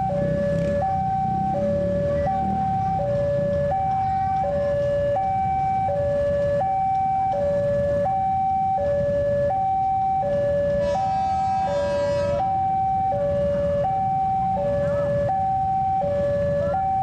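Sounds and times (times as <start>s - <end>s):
two-tone level crossing alarm: 0.0s - 17.0s.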